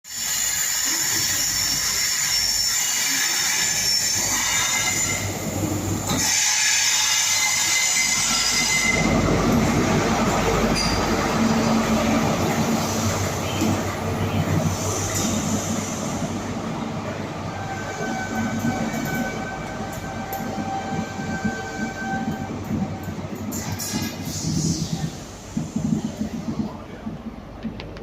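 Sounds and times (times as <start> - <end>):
train wheels and brakes squealing: 0.1 - 10.0, 10.6 - 16.3, 17.5 - 26.3
train rumbling: 0.1 - 28.0.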